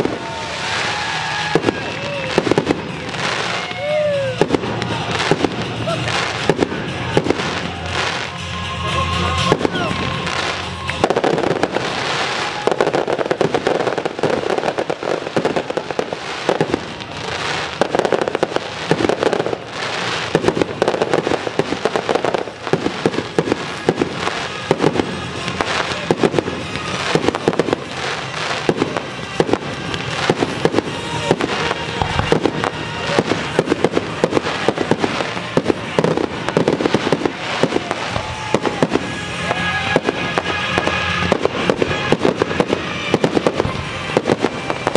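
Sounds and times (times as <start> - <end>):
fireworks bursting and crackling: 0.0 - 44.9.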